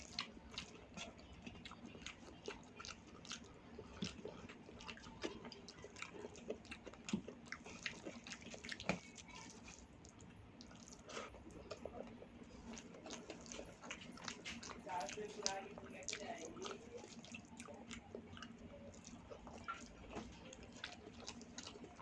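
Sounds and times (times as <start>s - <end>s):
person chewing wetly: 0.0s - 22.0s.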